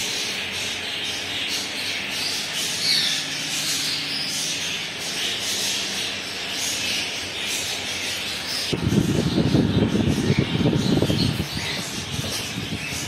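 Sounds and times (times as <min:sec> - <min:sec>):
cage birds chirping and twittering: 0:00.0 - 0:13.0.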